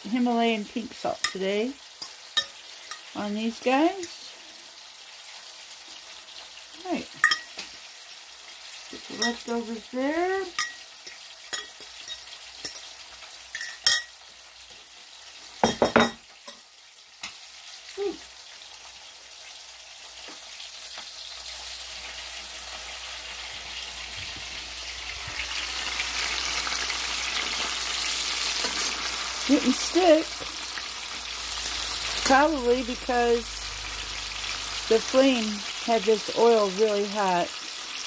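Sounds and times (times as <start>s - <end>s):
meat sizzling in hot oil: 0.0s - 38.0s.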